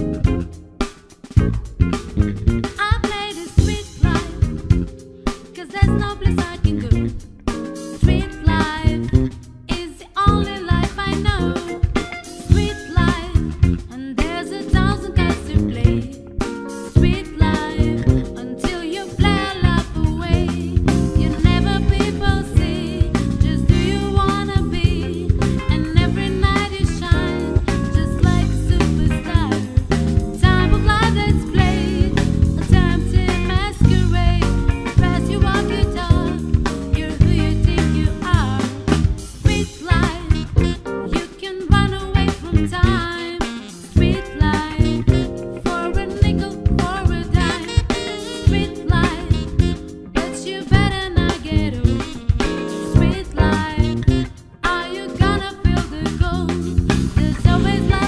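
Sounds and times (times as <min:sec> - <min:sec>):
steady drum beat: 0:00.0 - 0:58.0
person singing: 0:02.8 - 0:07.2, 0:08.0 - 0:58.0.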